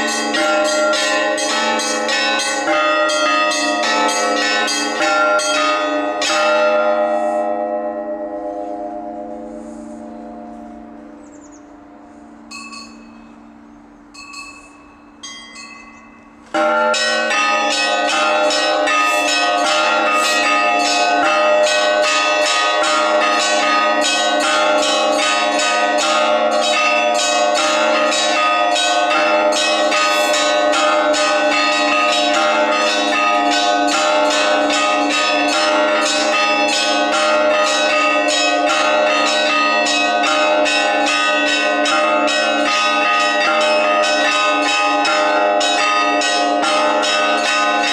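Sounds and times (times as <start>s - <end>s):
peal of church bells: 0.0s - 47.9s
small high church bells: 0.0s - 47.9s.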